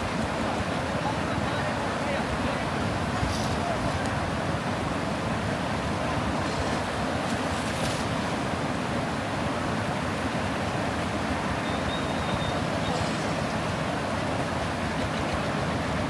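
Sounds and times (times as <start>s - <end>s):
floodwater rushing through sluice: 0.0s - 16.0s.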